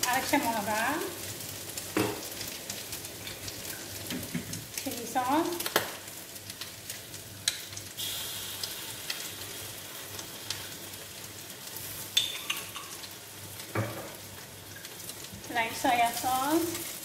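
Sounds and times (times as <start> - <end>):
noodles sizzling in a wok: 0.0 - 17.0.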